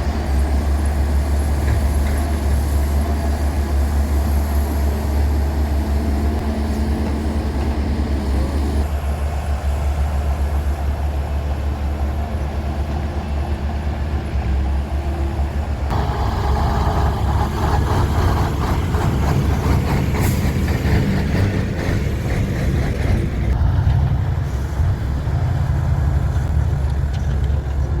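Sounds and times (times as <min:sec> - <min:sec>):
diesel machinery humming: 0:00.0 - 0:28.0.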